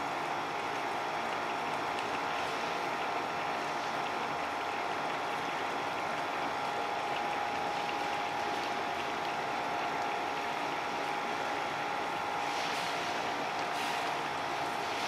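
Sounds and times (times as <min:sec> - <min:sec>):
pot simmering and bubbling: 0:00.0 - 0:15.0.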